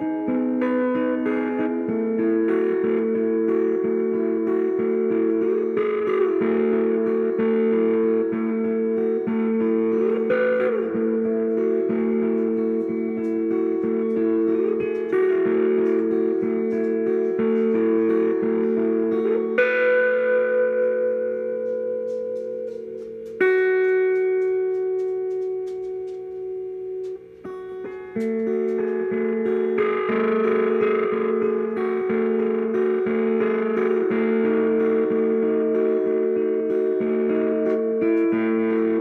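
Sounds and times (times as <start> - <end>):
fuzzed electric guitar chords: 0.0 - 39.0.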